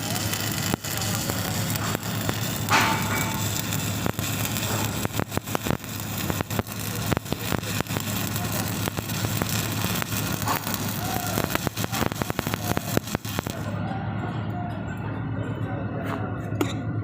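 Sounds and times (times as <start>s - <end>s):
welding arc crackling and popping: 0.0s - 13.7s
steady low hum: 0.0s - 17.0s.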